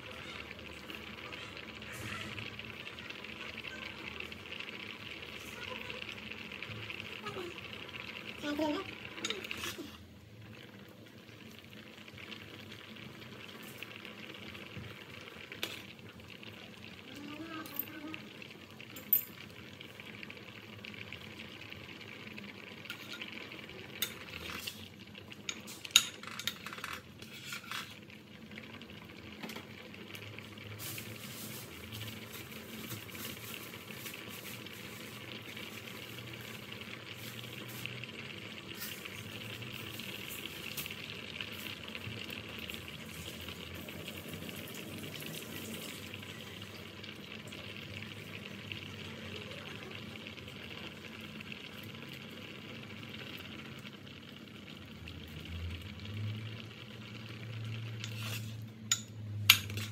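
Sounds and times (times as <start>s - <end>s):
pot boiling and bubbling: 0.0s - 59.9s.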